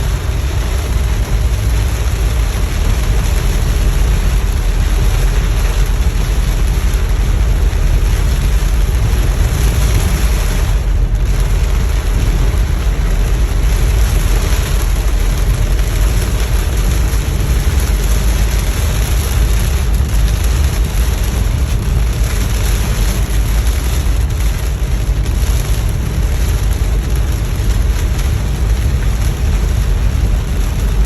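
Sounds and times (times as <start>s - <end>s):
heavy rain: 0.0s - 31.0s
low engine rumble: 0.0s - 31.0s
tyre noise on wet road: 0.0s - 31.0s.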